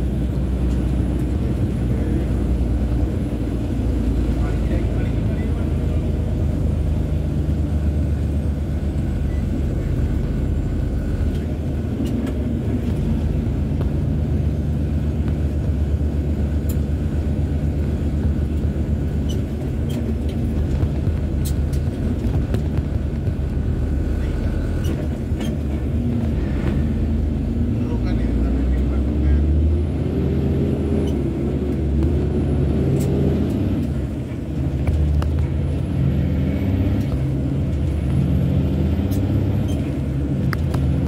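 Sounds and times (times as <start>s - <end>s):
road rumble: 0.0s - 41.0s
truck diesel engine drone: 0.0s - 41.0s.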